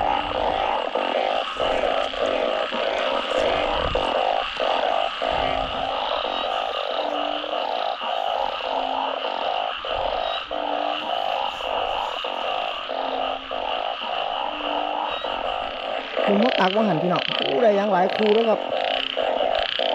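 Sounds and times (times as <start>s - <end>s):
deeper short frog call: 0.0s - 19.9s
frogs calling in chorus: 0.0s - 19.9s.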